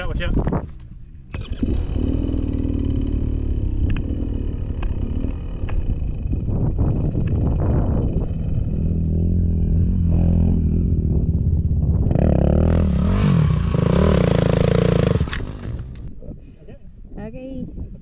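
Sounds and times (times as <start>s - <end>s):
dirt bike engine revving: 1.3s - 16.1s.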